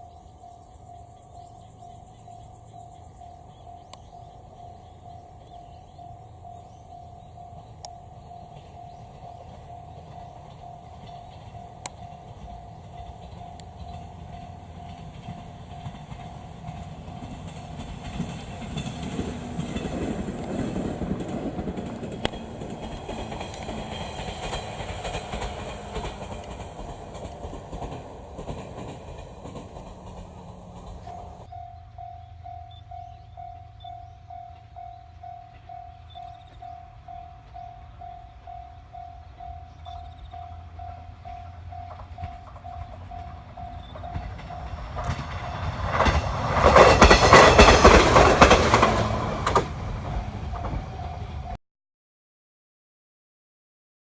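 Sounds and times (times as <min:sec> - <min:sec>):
level crossing alarm dinging: 0:00.0 - 0:49.6
electric train rumbling on track: 0:00.0 - 0:51.6.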